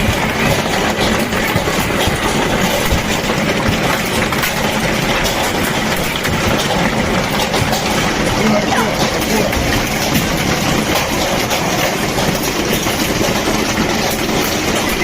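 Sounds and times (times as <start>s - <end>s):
hailstones clattering on surfaces: 0.0s - 15.0s.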